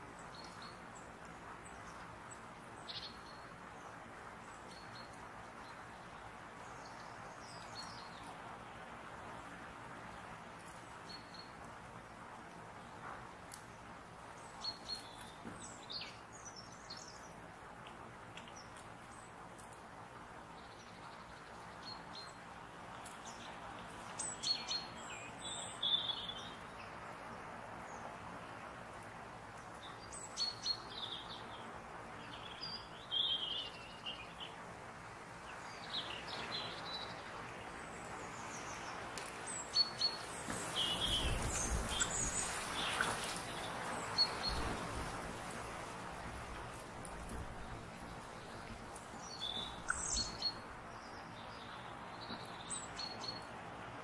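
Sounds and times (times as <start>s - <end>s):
faint background hiss: 0.0s - 54.0s
small birds chirping: 0.2s - 8.4s, 12.8s - 19.8s, 20.5s - 34.7s, 35.4s - 53.5s.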